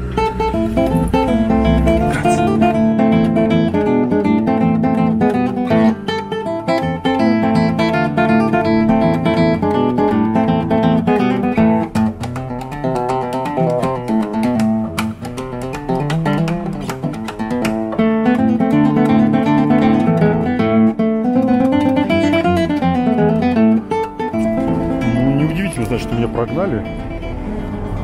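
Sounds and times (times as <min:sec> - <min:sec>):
acoustic guitar music: 0:00.0 - 0:28.0.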